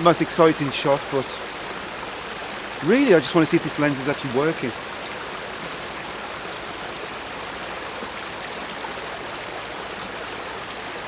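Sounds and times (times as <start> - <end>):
stream flowing water: 0.0 - 11.0.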